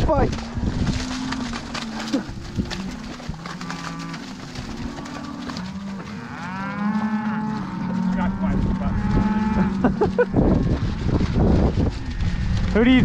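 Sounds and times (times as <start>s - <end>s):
cattle bellowing: 0.8s - 13.0s.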